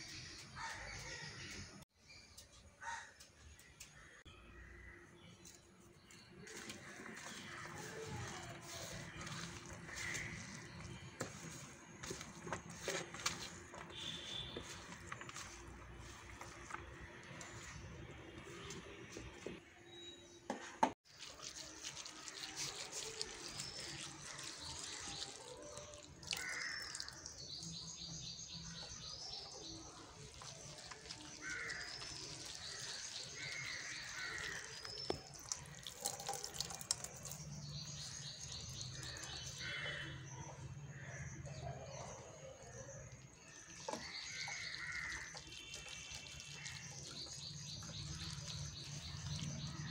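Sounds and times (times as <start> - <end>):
birds trilling and chirping: 0.0 - 20.5, 21.1 - 49.9
hands squelching mash in water: 4.8 - 19.6, 21.0 - 49.9.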